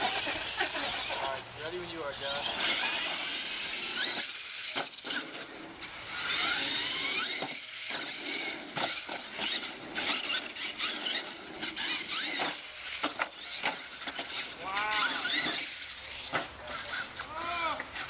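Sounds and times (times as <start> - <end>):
toy truck motor whining: 0.0 - 18.0
tyres scrabbling on dirt: 0.0 - 18.0.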